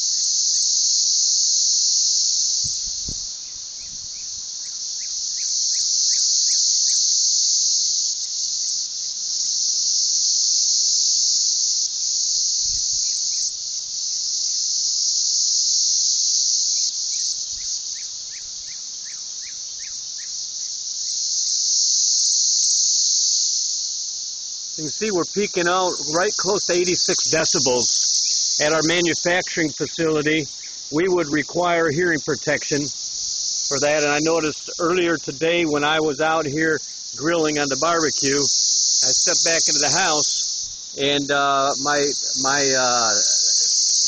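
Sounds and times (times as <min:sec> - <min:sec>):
cicadas buzzing: 0:00.0 - 0:44.0.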